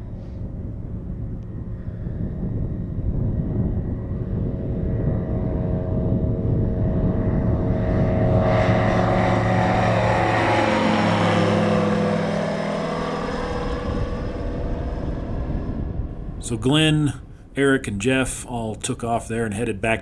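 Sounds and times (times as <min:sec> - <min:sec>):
propeller airplane passing: 0:00.0 - 0:20.0.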